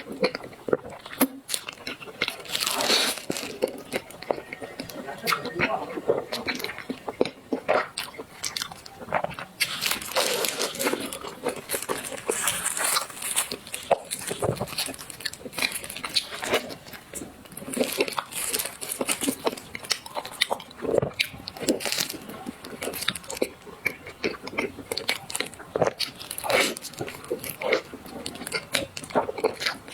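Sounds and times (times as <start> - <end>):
person chewing crunchy food: 0.0 - 29.9.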